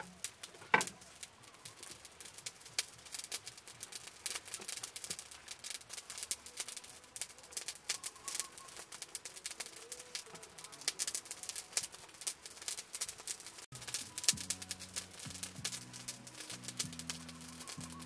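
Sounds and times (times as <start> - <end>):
small wet clicks and crackles: 0.0 - 18.0.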